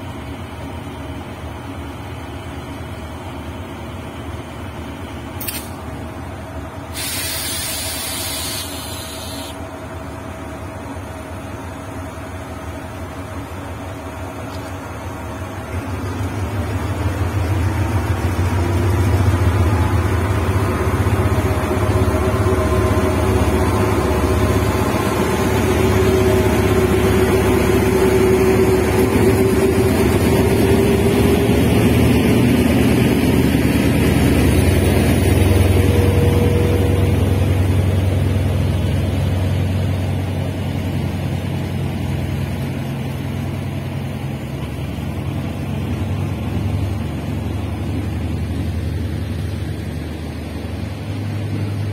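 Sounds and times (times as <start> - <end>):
locomotive engine rumbling: 0.0 - 51.9
train coaches rolling on rails: 0.0 - 51.9.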